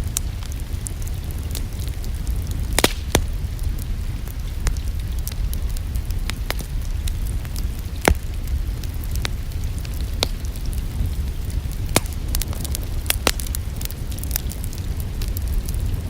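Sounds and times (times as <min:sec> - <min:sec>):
sharp fire pops: 0:00.0 - 0:16.0
steady low rumble: 0:00.0 - 0:16.0
wood fire crackling: 0:00.0 - 0:16.0.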